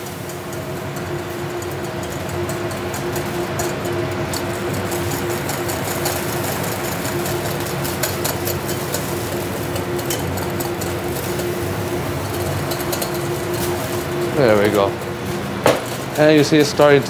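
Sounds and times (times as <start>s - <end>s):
whisk clicking in metal bowl: 0.0s - 15.1s
extractor hood and burner hum: 0.0s - 17.0s.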